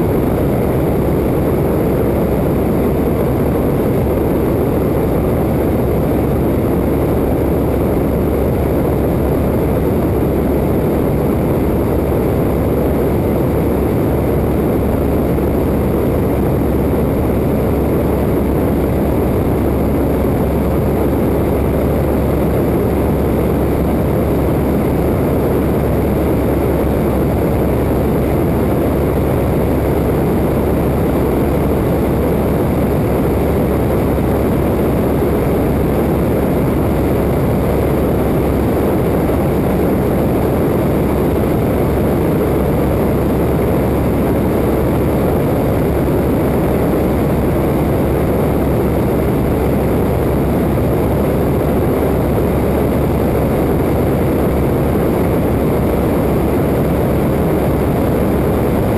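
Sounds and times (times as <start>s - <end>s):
propeller plane engine drone: 0.0s - 58.9s
wind rush over microphone: 0.0s - 58.9s.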